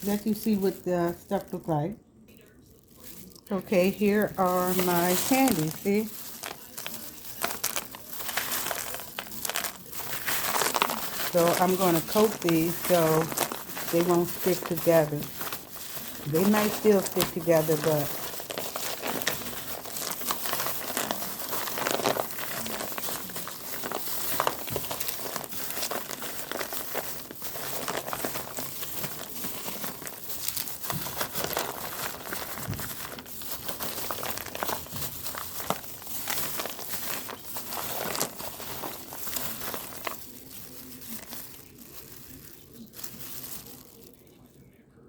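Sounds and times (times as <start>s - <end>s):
candies rattling and crinkling: 0.0s - 44.6s.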